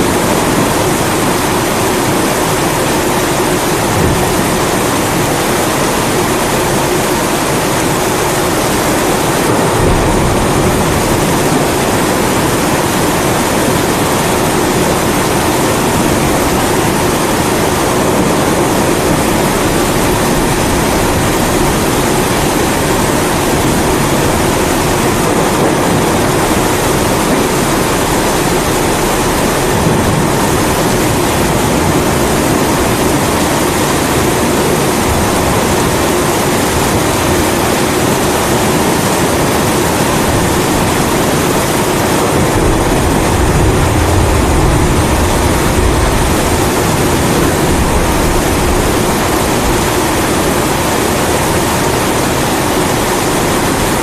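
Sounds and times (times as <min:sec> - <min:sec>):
low rumble of thunder: 0:00.0 - 0:38.8, 0:40.1 - 0:52.4
continuous rain: 0:00.0 - 0:54.0.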